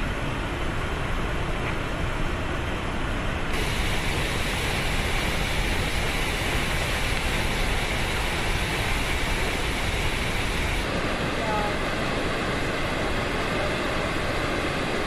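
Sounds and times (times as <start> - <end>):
rush of floodwater and spray: 0.0 - 15.0.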